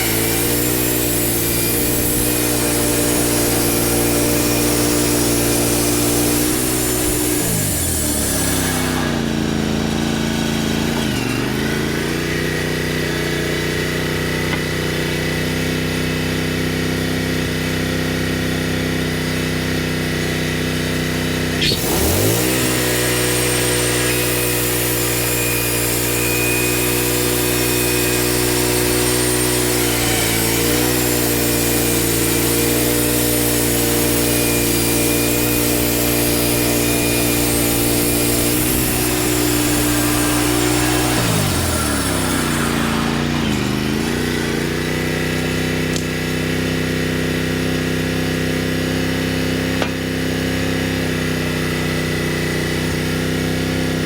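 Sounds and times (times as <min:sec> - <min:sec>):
sawmill gas engine running: 0:00.0 - 0:54.0.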